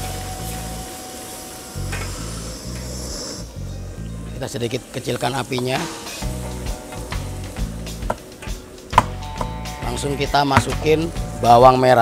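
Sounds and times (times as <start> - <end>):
garlic sizzling in butter: 0.0 - 3.6, 4.4 - 11.5
background music: 0.0 - 12.0.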